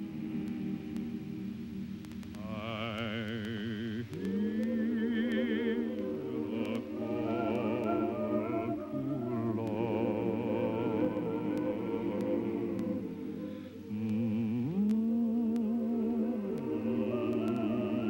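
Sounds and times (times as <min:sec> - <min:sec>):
choir singing a slow chant: 0:00.0 - 0:18.0.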